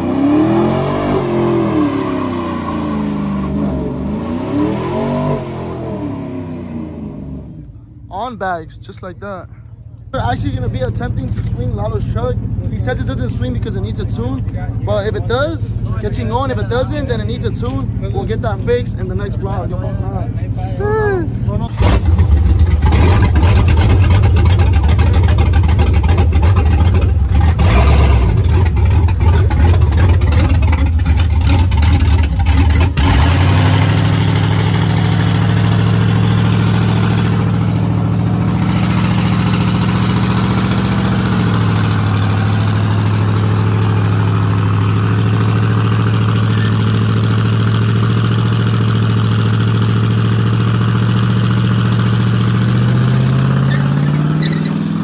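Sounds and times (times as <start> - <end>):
truck engine revving and idling: 0.0 - 55.0.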